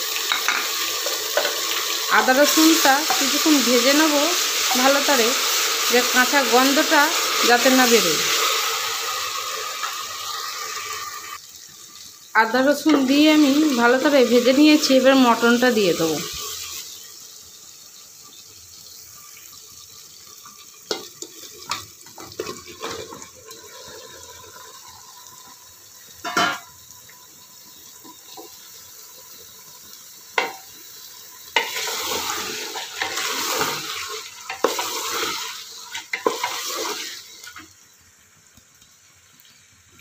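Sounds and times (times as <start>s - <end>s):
meat sizzling in oil: 0.0s - 40.0s.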